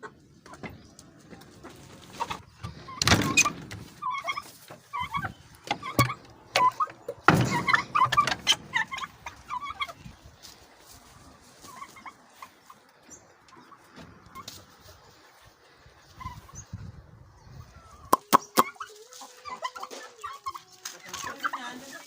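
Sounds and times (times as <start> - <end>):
turkey poults peeping: 0.0 - 22.0.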